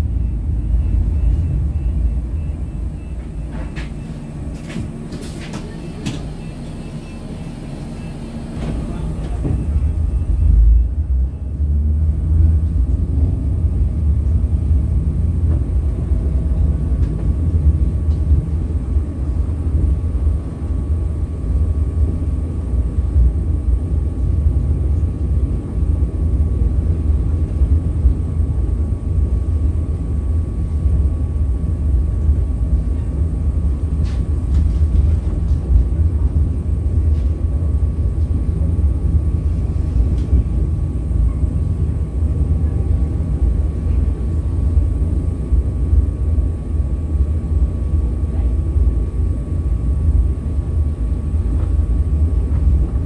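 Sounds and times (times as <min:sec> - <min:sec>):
tram rumbling on track: 0:00.0 - 0:53.0.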